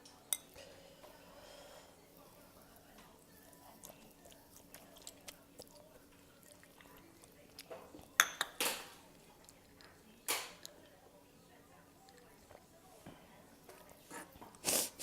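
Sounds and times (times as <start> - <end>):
soft chewing noodles: 0.4 - 8.2, 9.0 - 15.0.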